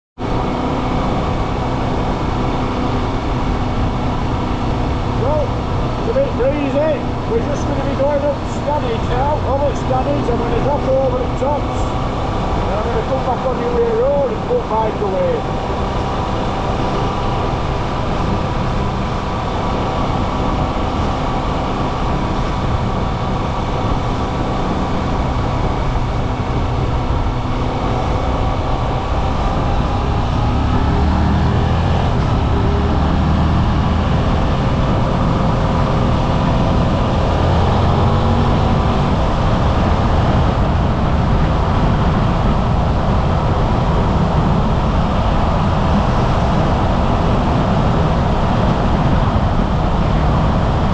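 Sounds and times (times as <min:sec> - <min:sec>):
motorcycle engine running: 0:00.2 - 0:50.9
wind noise: 0:00.2 - 0:50.9.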